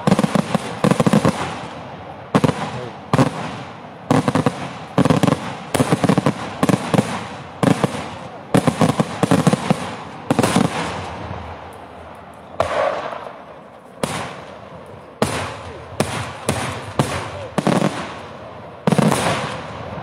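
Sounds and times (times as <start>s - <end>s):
fireworks bursting with loud bangs: 0.0s - 20.0s.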